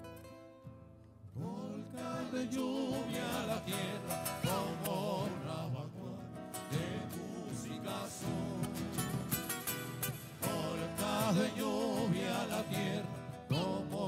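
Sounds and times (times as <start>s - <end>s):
acoustic guitars strummed: 0.0s - 14.0s
man singing: 1.4s - 14.0s.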